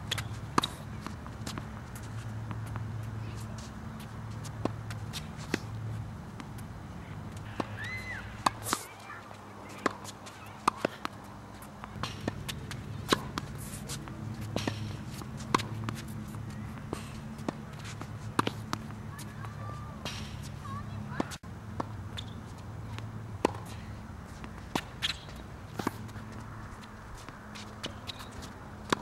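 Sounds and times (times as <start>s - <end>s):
balls bouncing on hard court: 0.0s - 6.6s, 7.3s - 29.0s
tennis balls struck by racket: 0.0s - 29.0s.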